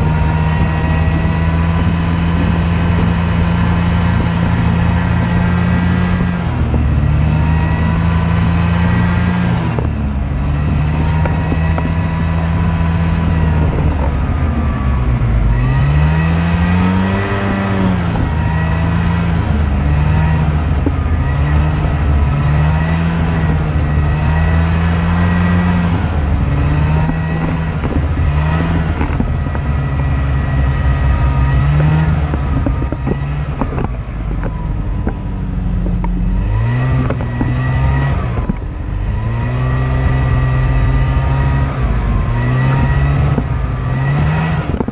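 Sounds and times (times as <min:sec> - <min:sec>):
snowmobile engine revving: 0:00.0 - 0:44.9.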